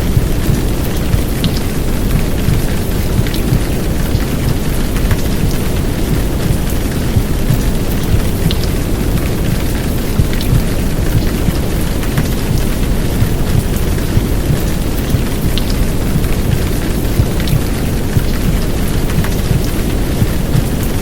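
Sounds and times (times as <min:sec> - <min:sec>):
heavy rain hiss: 0:00.0 - 0:21.0.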